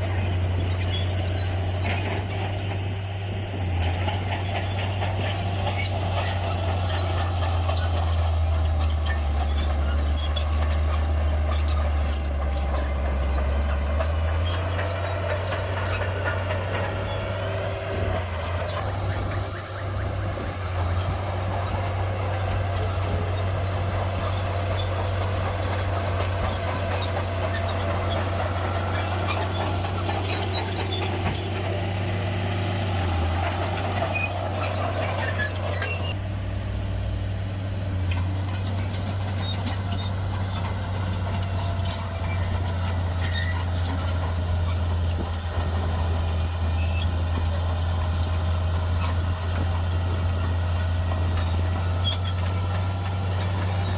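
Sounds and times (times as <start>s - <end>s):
diesel machinery engine drone: 0.0s - 53.9s
clanks and clicks: 3.5s - 32.1s, 38.0s - 53.9s.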